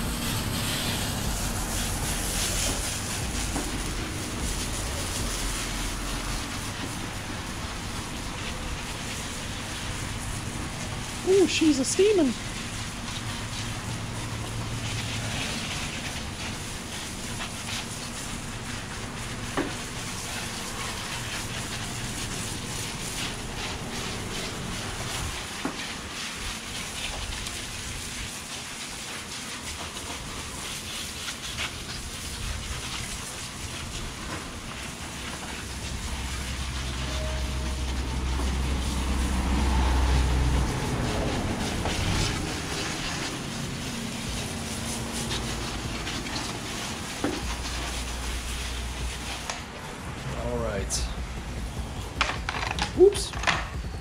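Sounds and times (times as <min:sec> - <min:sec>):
high-pressure water spraying: 0:00.0 - 0:54.0.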